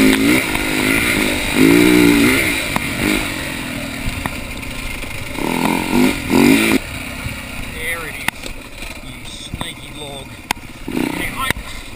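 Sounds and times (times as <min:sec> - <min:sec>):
dirt bike engine revving: 0:00.0 - 0:11.9.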